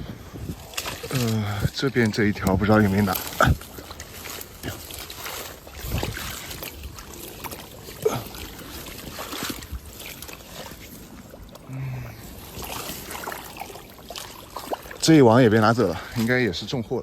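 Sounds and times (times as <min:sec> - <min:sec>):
footsteps splashing through water and mud: 0:00.0 - 0:17.0.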